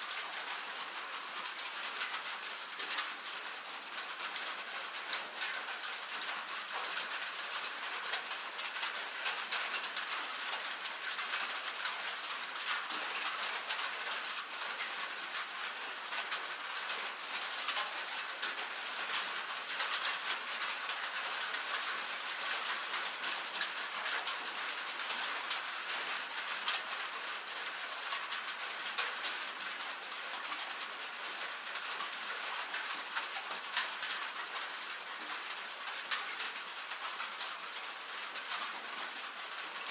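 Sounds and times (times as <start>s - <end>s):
light rain on metal roof: 0.0s - 39.9s.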